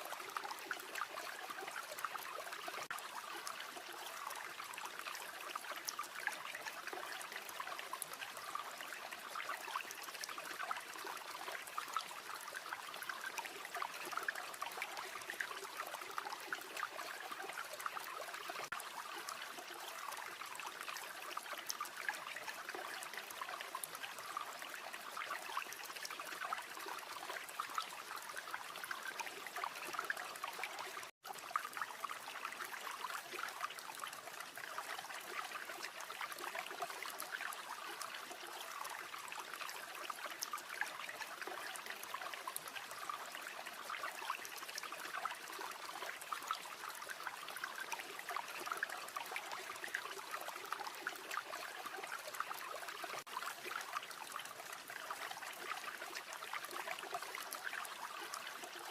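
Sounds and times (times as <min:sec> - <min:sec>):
river water babbling: 0:00.0 - 0:58.9.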